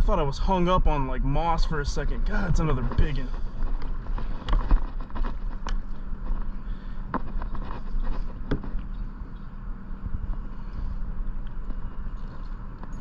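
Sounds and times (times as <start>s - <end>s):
low rumble of wind and water: 0.0s - 13.0s.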